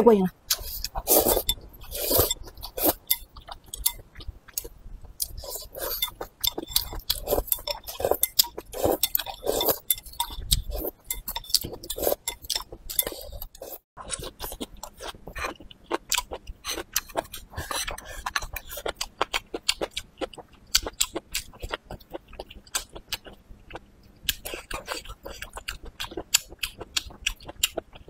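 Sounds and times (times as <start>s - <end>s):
noodles slurped and chewed: 0.5s - 23.4s.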